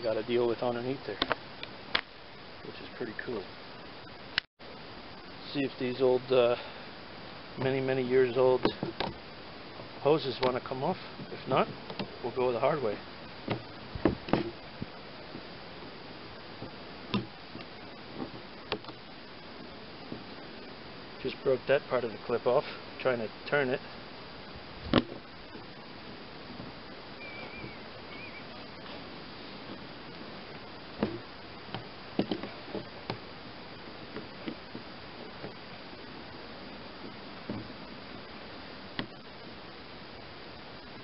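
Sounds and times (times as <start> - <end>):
steady background hiss: 0.0 - 41.0.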